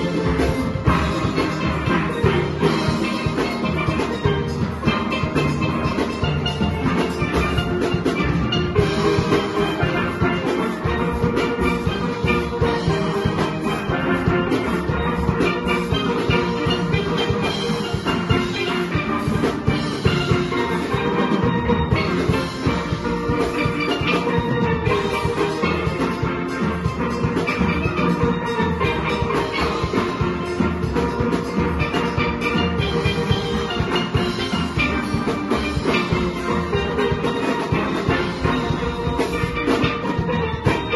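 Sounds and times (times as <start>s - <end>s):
driving drum beat: 0.0s - 40.9s
steel pans playing: 0.0s - 40.9s.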